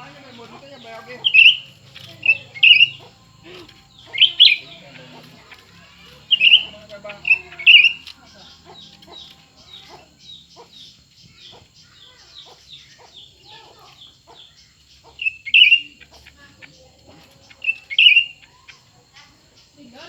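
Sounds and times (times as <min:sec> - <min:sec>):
bird chirping: 0:00.0 - 0:20.0
bird harsh calls: 0:00.0 - 0:20.0.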